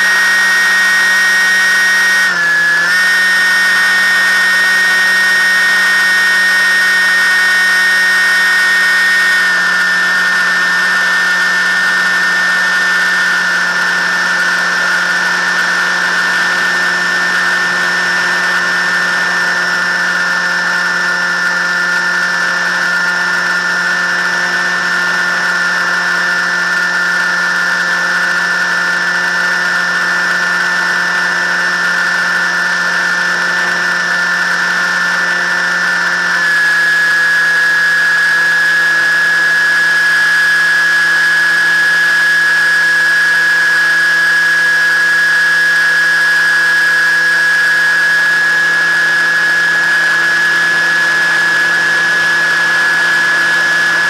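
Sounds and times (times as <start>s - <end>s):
model aircraft motor whine: 0.0s - 54.0s.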